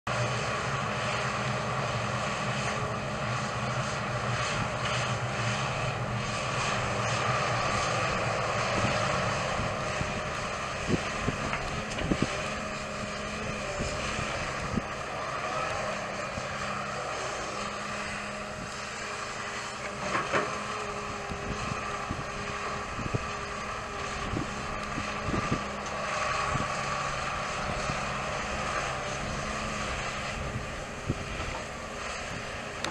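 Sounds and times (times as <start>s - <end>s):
excavator diesel engine running: 0.1s - 32.9s.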